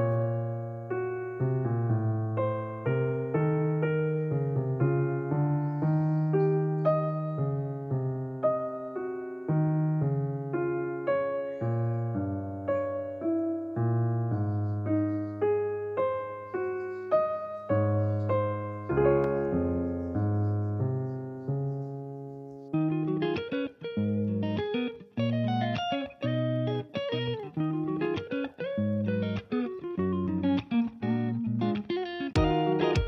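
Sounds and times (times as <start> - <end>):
piano piece: 0.0 - 33.0.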